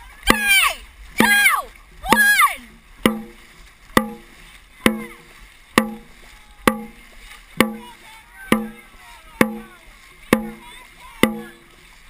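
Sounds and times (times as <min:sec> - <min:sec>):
drum beats with booms: 0:00.0 - 0:12.0
paddles splashing water: 0:00.0 - 0:12.0.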